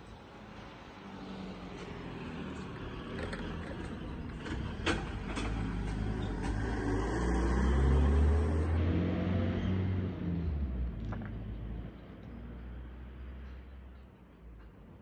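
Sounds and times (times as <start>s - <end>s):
vehicle engine hum passing: 0.1s - 15.0s.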